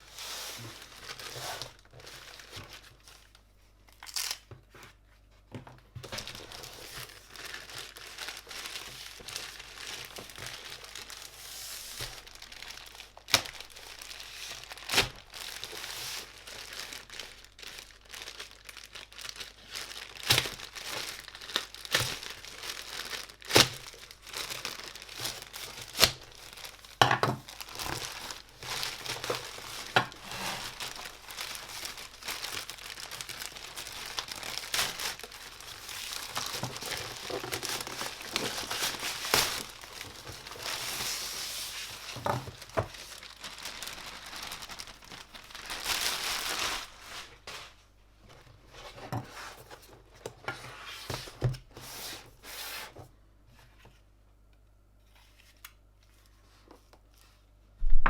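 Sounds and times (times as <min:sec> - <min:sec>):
packaging crinkling: 0:00.1 - 0:04.6, 0:06.0 - 0:48.8.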